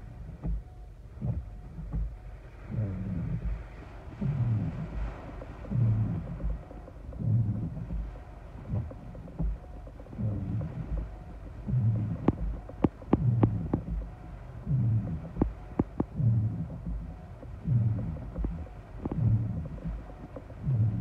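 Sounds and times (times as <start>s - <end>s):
raindrops tapping on glass: 0.2s - 21.0s.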